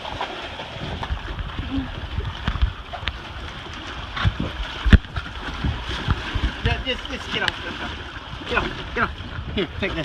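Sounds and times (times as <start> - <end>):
wind buffeting microphone: 0.5 - 10.0.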